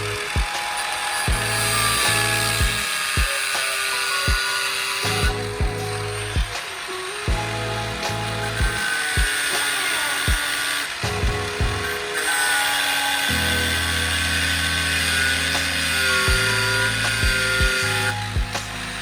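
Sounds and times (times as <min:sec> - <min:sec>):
music with synth notes: 0:00.0 - 0:19.0.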